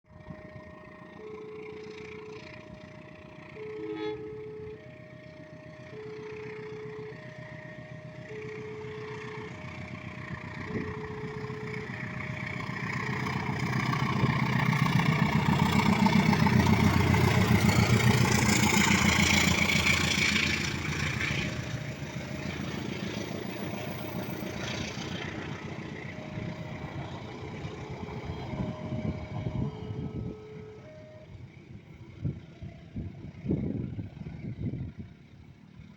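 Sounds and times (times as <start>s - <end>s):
level-crossing alarm two tones: 0.1s - 31.4s
train passing: 0.1s - 35.9s.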